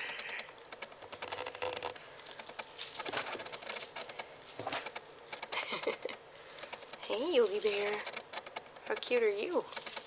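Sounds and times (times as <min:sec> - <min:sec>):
kittens scratching and rustling: 0:00.0 - 0:10.0.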